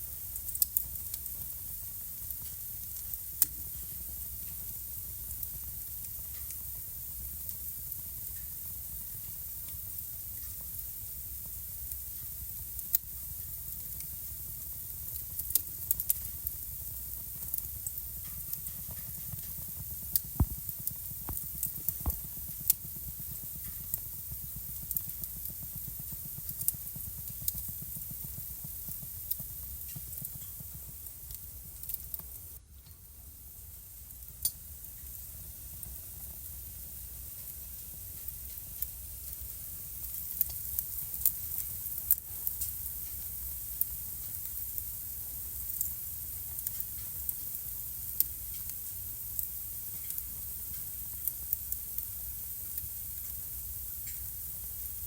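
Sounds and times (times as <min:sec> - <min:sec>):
fire crackles and pops: 0:00.0 - 0:55.0
fire rumble and hiss: 0:00.0 - 0:55.0.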